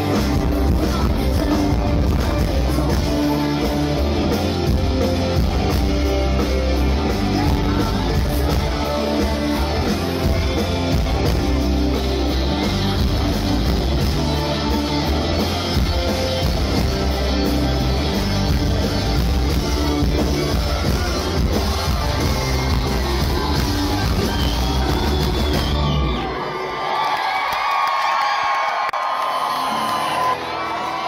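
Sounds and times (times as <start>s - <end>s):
drum kit: 0.0s - 26.3s
bass guitar: 0.0s - 26.4s
electric guitars: 0.0s - 26.9s
crowd cheering: 0.0s - 31.0s.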